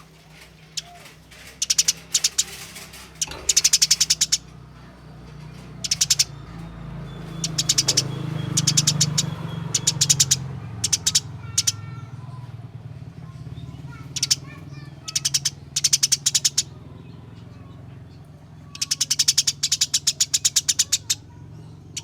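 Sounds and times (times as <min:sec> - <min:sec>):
sparrows chirping rapidly: 0:00.0 - 0:22.0.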